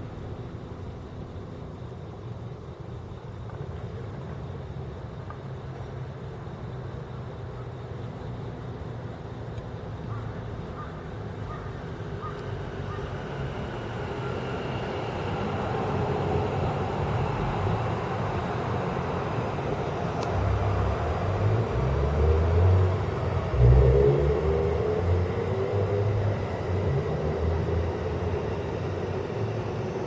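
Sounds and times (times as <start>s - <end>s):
passing vehicle: 0.0s - 30.0s.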